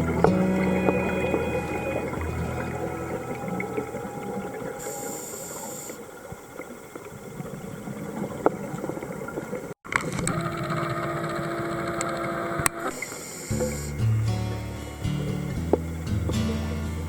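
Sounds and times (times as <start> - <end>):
crackling underwater hiss: 0.0 - 9.8, 12.8 - 17.0.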